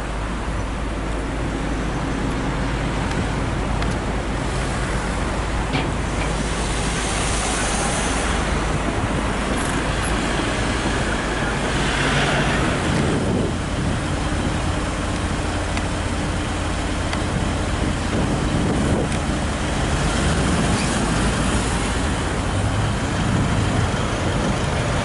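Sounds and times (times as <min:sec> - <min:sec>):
cars and trucks driving past: 0:00.0 - 0:25.0.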